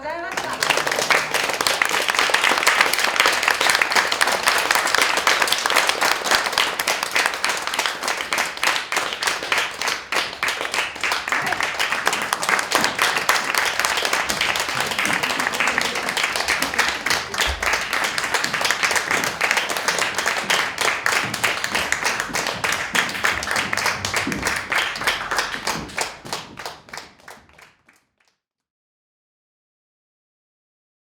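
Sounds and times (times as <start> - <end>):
audience applauding: 0.0 - 28.0.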